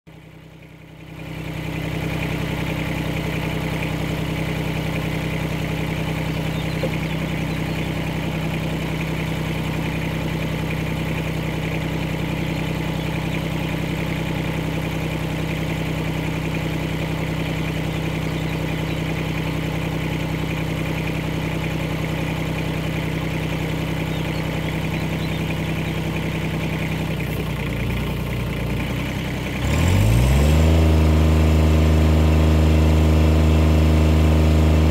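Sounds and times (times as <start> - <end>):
tractor diesel engine idling: 0.1 - 34.9.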